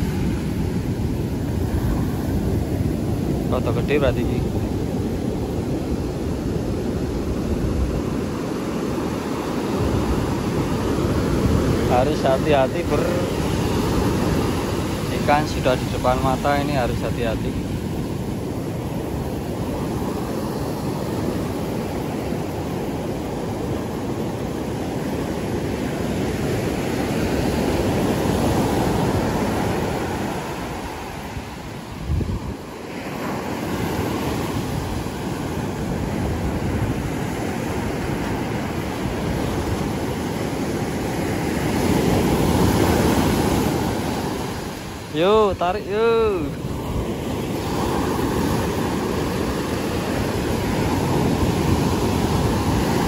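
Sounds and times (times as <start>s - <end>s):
ocean surf breaking: 0.0s - 53.0s
wind buffeting microphone: 0.0s - 53.0s.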